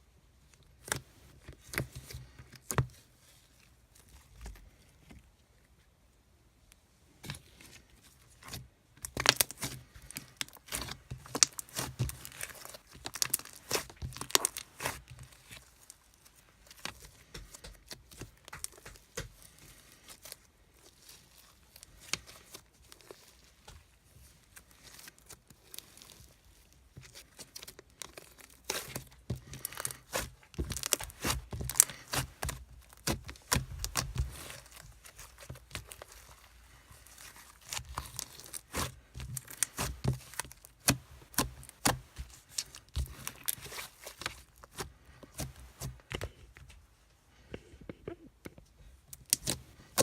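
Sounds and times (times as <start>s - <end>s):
crinkling and crackling: 6.6s - 50.0s.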